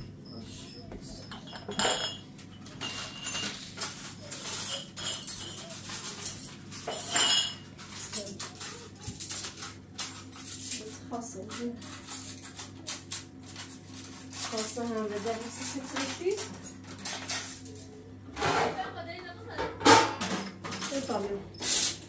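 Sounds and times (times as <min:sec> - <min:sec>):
dishes and utensils clattering: 0:01.0 - 0:22.0.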